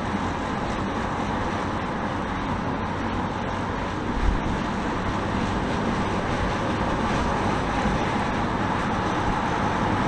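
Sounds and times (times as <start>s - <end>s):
vehicle engine and tyre noise: 0.0s - 10.0s.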